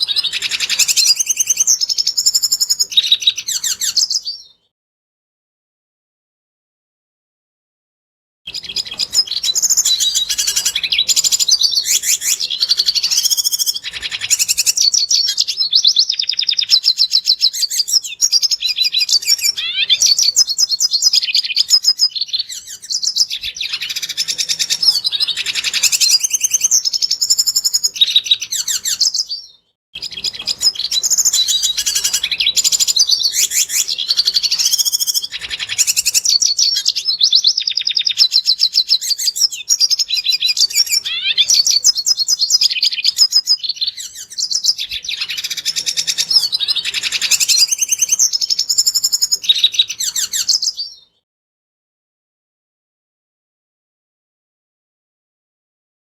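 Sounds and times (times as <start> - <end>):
bird singing twittering song: 0.0 - 4.7, 8.5 - 51.2.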